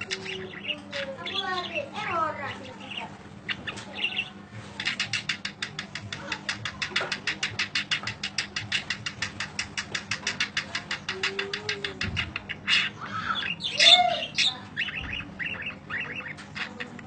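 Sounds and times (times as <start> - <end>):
bird ticking notes: 0.0 - 17.0.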